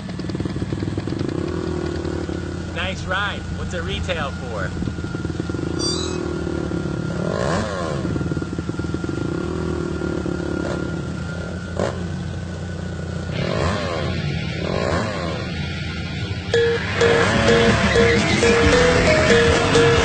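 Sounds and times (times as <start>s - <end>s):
quad bike engine revving: 0.0s - 20.0s.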